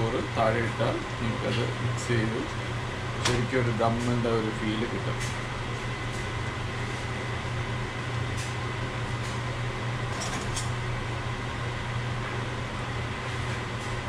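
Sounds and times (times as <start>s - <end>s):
fan hum: 0.0s - 14.0s.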